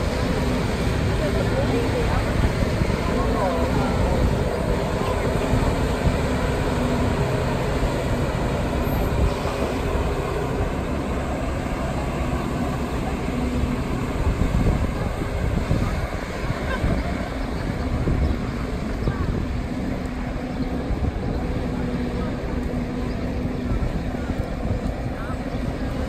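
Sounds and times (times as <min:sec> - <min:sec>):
boat hoist engine rumbling: 0:00.0 - 0:26.0.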